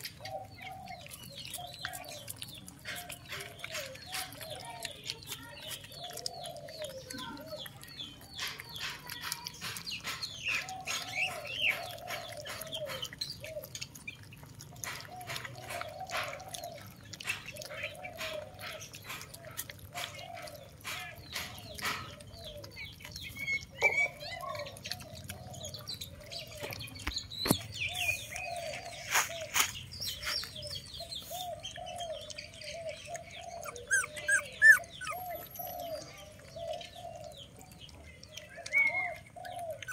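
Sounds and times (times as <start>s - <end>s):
birds calling: 0.0s - 39.9s
puppies crunching food: 0.0s - 39.9s.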